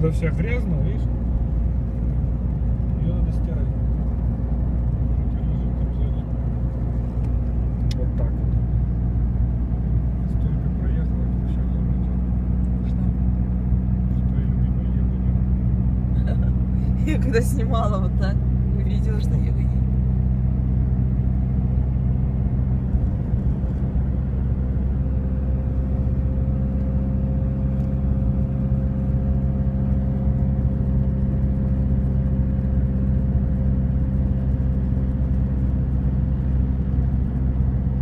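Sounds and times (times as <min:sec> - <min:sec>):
car interior drone: 0:00.0 - 0:38.0.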